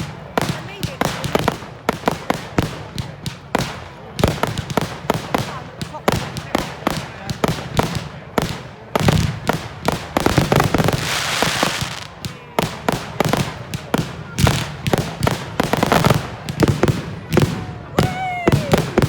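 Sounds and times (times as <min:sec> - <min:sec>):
fireworks bangs: 0:00.0 - 0:19.0
fireworks crackling hiss: 0:00.0 - 0:19.0.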